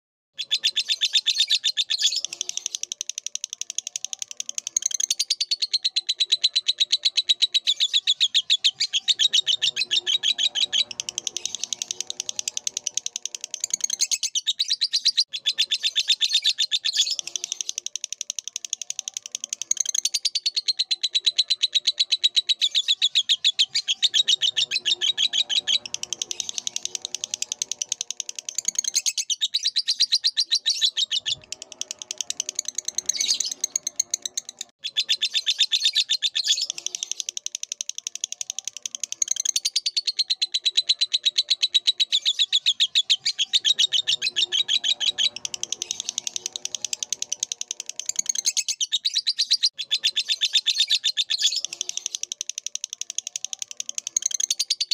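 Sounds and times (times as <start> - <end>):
bird chattering chirps: 0.4 - 54.9.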